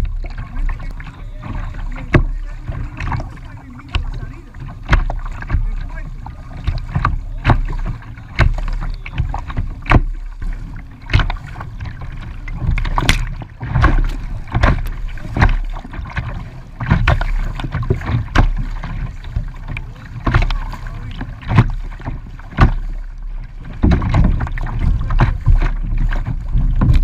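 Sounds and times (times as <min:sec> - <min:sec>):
paddle blades dipping in water: 0:00.0 - 0:27.0
steady low rumble: 0:00.0 - 0:27.0
water slapping against kayak bow: 0:00.0 - 0:27.0.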